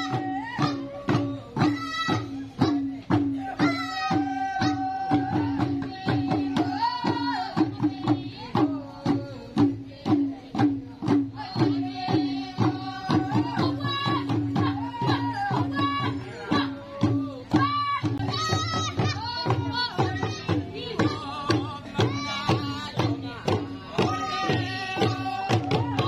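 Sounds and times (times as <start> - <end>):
voices singing long notes: 0.0 - 10.2, 11.4 - 26.0
drum beating steady rhythm: 0.0 - 26.0.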